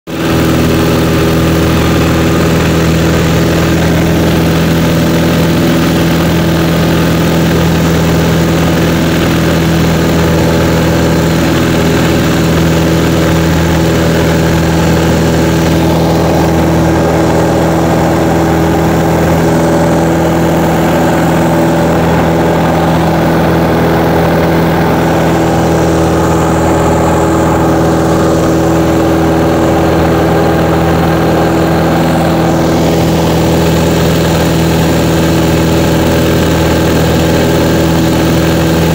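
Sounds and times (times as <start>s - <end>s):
light airplane engine and propeller: 0.1s - 38.9s.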